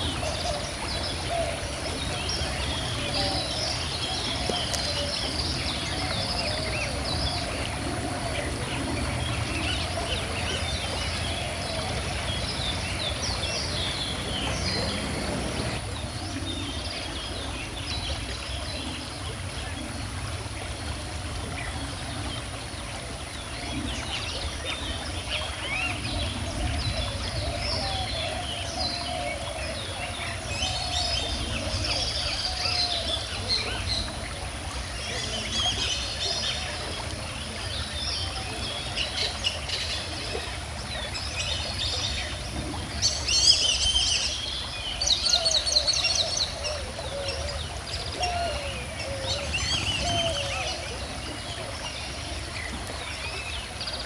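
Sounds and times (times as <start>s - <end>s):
birds singing and chirping: 0.0s - 15.8s, 23.7s - 54.0s
calm river rushing: 0.0s - 54.0s.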